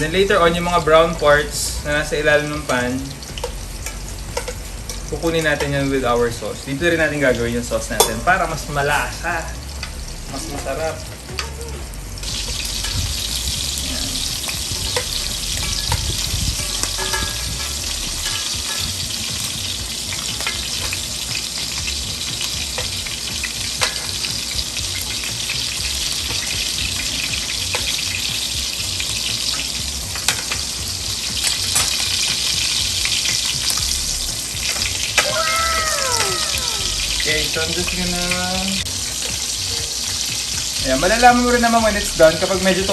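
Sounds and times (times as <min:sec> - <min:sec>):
meatballs sizzling in hot oil: 0:00.0 - 0:42.9
oil popping: 0:00.0 - 0:42.9.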